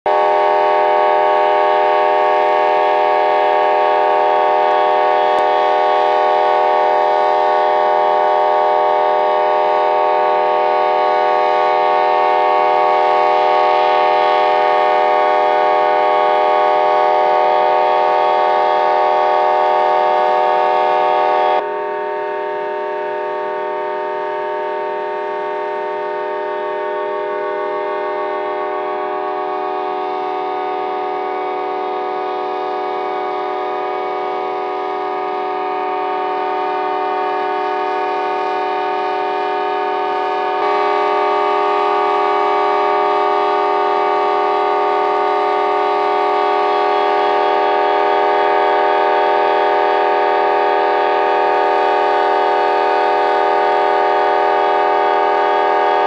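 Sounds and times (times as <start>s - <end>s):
locomotive air horn chord: 0.0s - 56.0s.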